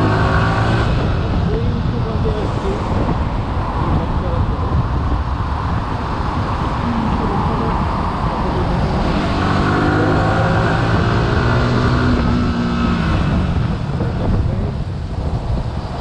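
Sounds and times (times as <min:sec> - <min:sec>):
motorcycle engine accelerating: 0:00.0 - 0:03.3, 0:04.0 - 0:16.0.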